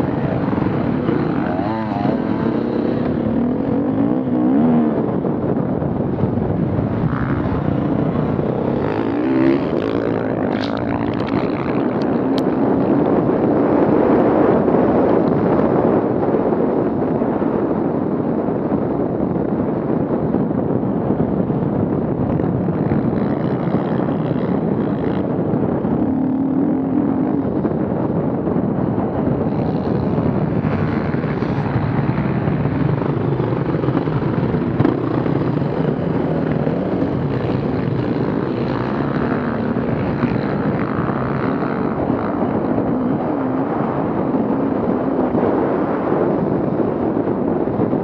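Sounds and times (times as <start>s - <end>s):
off-road vehicle engines: 0.0s - 48.0s.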